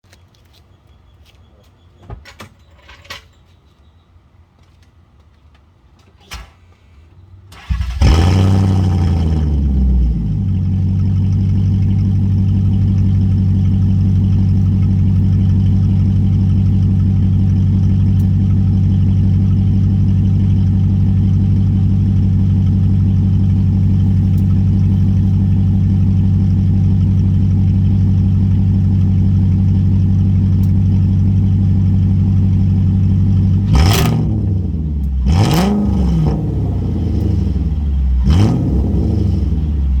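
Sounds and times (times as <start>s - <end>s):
car engine starting and idling: 7.4s - 40.0s.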